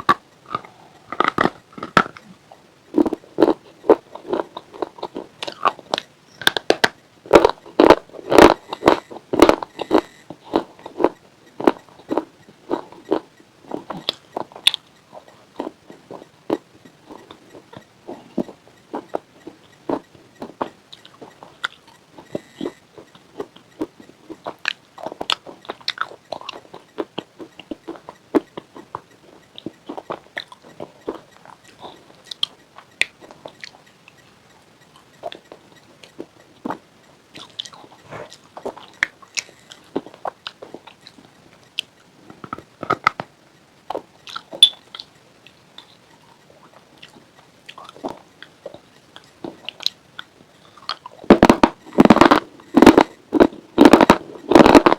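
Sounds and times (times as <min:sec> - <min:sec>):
crunchy chips being chewed: 0:00.0 - 0:43.3, 0:43.9 - 0:54.9.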